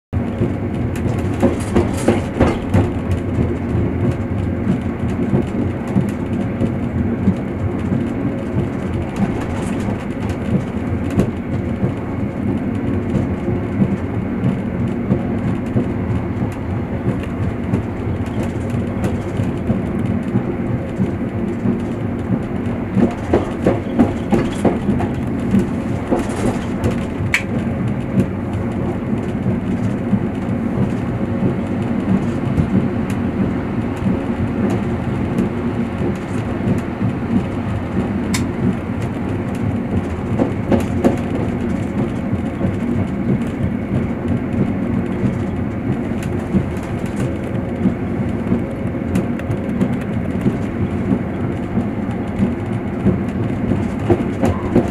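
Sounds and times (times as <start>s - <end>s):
train wheels rumbling on track: 0.1s - 54.9s
wheels clicking over rail joints: 0.2s - 54.9s.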